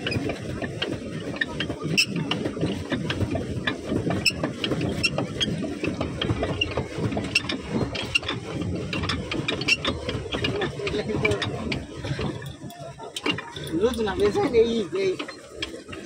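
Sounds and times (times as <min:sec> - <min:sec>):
pedal boat gearing clicking and rattling: 0:00.0 - 0:16.0.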